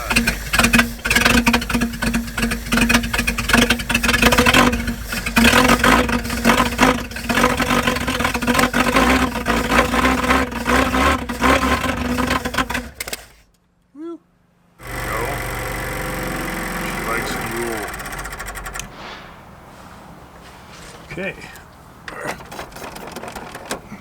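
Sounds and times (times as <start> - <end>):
car engine running unevenly: 0.0 - 13.5, 14.8 - 24.0.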